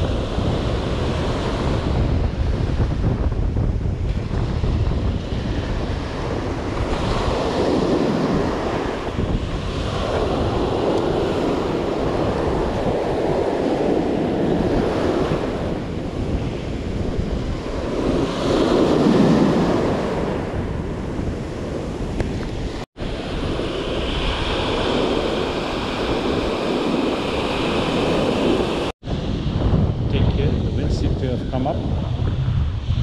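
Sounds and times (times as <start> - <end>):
surf washing up the beach: 0.0 - 30.7
wind buffeting microphone: 0.0 - 33.0.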